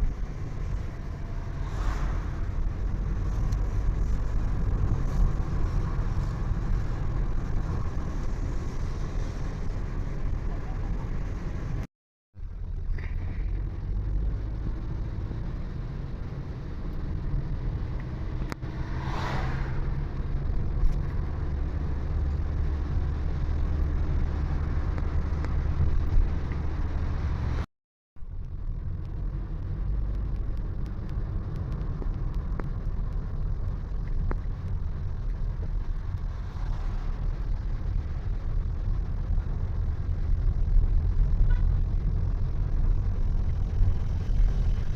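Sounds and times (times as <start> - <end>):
vehicle engine and tyres rumbling: 0.0 - 44.9.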